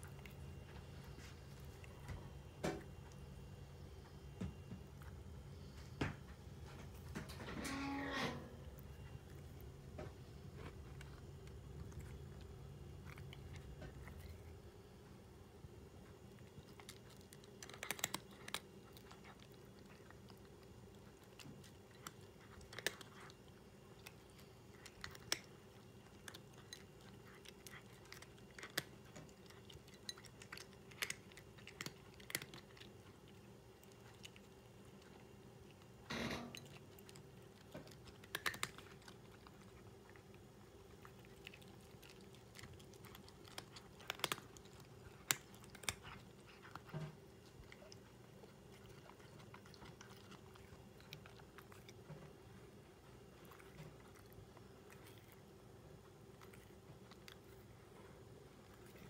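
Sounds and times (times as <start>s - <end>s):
cat crunching dry kibble: 0.0s - 7.4s, 8.6s - 59.0s
faint steady hum: 0.0s - 59.0s.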